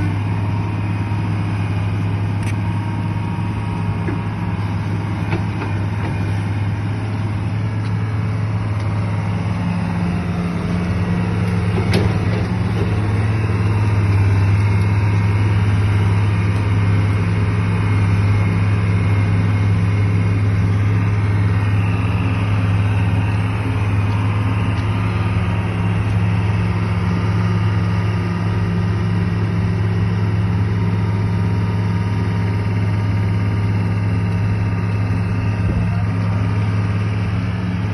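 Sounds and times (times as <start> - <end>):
excavator engine running: 0.0 - 37.9.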